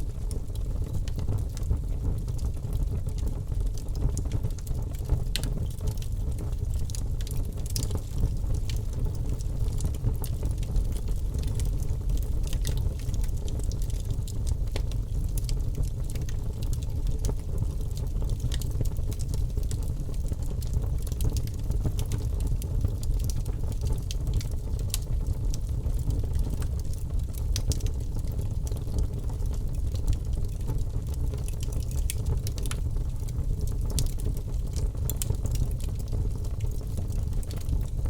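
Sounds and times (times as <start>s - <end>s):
logs burning with crackles and pops: 0.0s - 38.0s.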